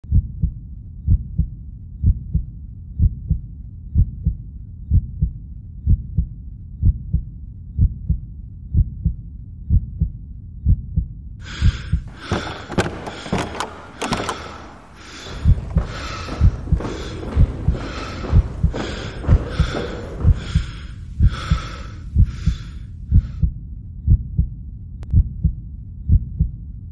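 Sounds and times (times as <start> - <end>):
heartbeat thumps: 0.0 - 26.6.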